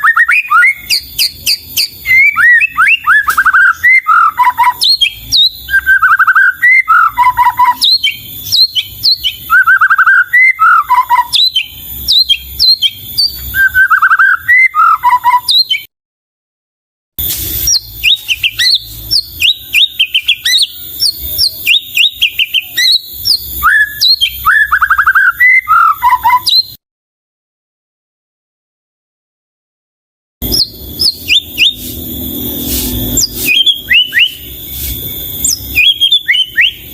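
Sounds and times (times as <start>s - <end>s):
bird singing warbled phrases: 0.0s - 15.9s, 17.6s - 26.8s, 30.4s - 31.8s, 33.0s - 36.9s
downward-sweeping bird whistles: 0.0s - 15.9s, 17.4s - 26.8s, 30.4s - 36.9s.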